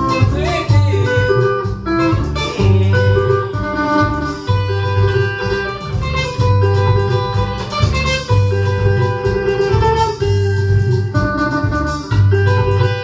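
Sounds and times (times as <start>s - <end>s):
electric guitar ringing notes: 0.0s - 13.0s
repeating bass line: 0.0s - 13.0s.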